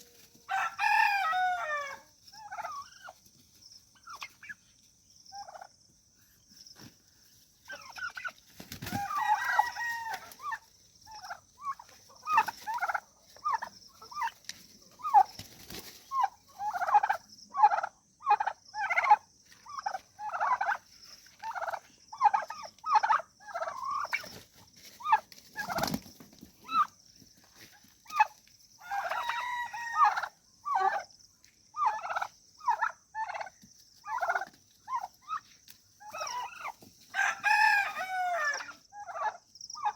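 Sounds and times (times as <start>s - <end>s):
turkey gobbling: 0.0s - 3.3s, 3.9s - 4.7s, 5.3s - 5.7s, 7.7s - 27.0s, 28.0s - 31.1s, 31.8s - 39.9s
chickens calling: 0.0s - 39.9s.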